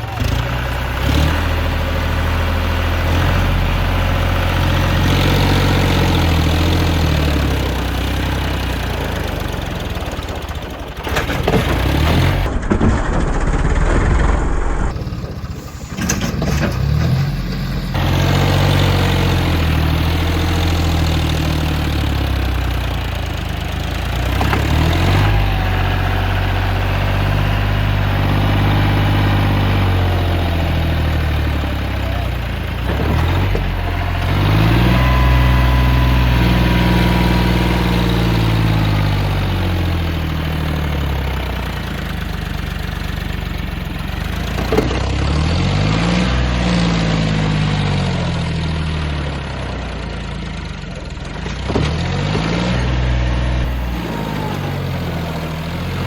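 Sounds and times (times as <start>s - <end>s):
diesel tractor engine revving: 0.0s - 56.0s.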